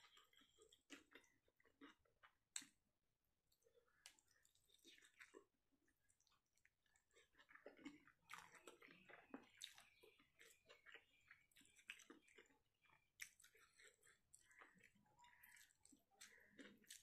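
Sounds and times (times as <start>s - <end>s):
fingers squishing food: 0.0s - 17.0s
quiet chewing and mouth smacks: 0.0s - 17.0s.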